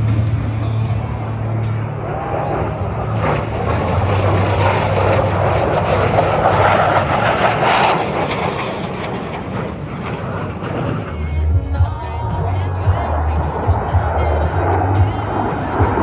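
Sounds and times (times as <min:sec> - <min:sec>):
jet flypast roar: 0:00.0 - 0:16.0.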